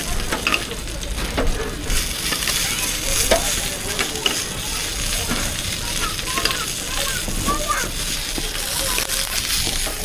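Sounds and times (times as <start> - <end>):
burgers sizzling in a pan: 0.0 - 10.0.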